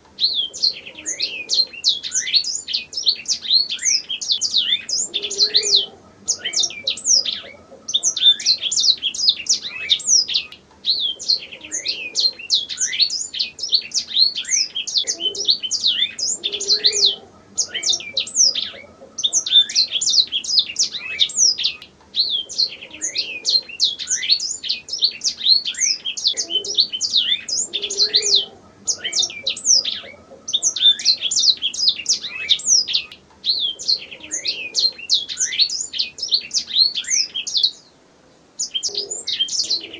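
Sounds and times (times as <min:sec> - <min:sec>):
canary singing: 0:00.0 - 0:37.9, 0:38.6 - 0:39.9.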